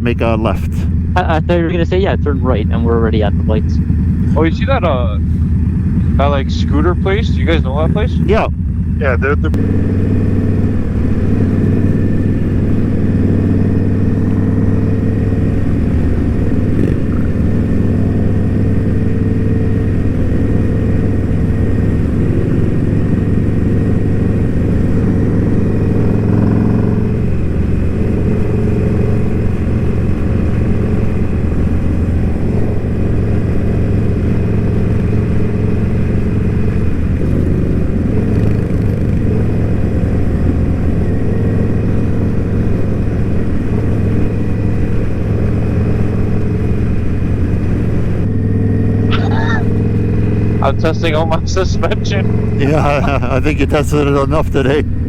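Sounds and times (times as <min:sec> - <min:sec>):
motorcycle engine running steadily: 0:00.0 - 0:55.0.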